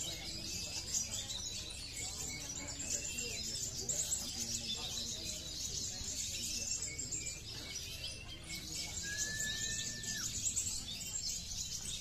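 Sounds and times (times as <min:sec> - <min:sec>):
birds twittering and chirping: 0:00.0 - 0:12.0.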